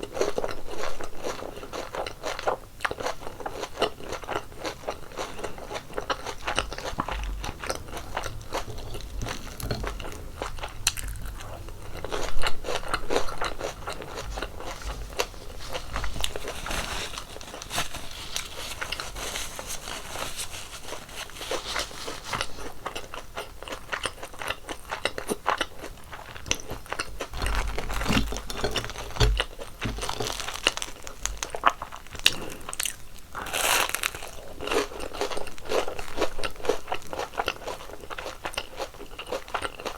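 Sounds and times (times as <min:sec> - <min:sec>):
crunching fried doughnuts: 0:00.0 - 0:39.9.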